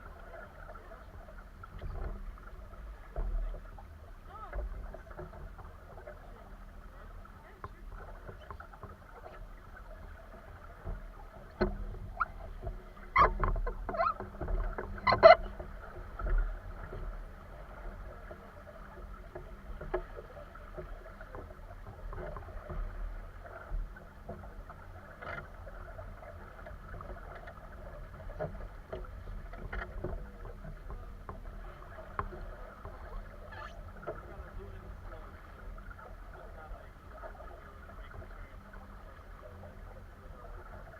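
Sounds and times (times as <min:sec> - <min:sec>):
water lapping against boat: 0:00.0 - 0:40.9.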